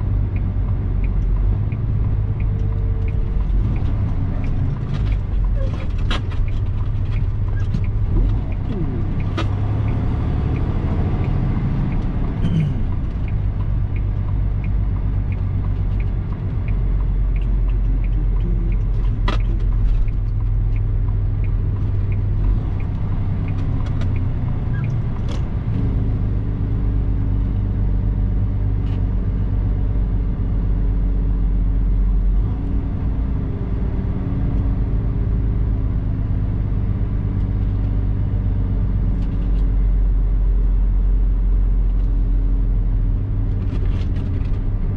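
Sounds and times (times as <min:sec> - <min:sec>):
diesel truck engine rumble: 0:00.0 - 0:44.9.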